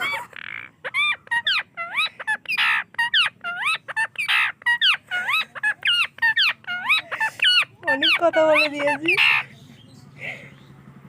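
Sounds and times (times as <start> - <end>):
parrot squawks: 0.0 - 9.5
parrot whistled calls: 0.4 - 9.4.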